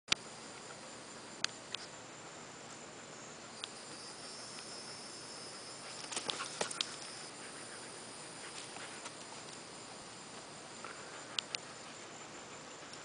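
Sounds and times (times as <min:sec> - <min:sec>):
high-pitched insect song: 0:00.1 - 0:13.0.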